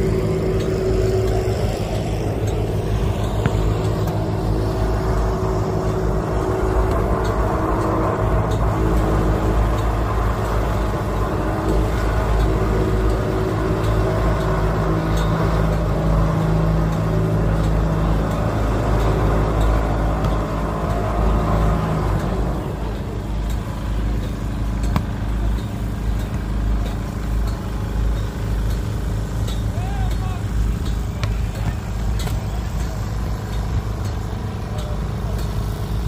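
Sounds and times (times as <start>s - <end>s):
road traffic rumble: 0.0s - 36.0s
vehicle engine running: 0.0s - 36.0s.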